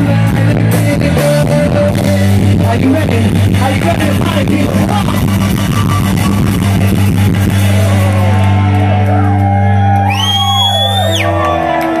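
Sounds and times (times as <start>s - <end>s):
live rock band: 0.0s - 12.0s.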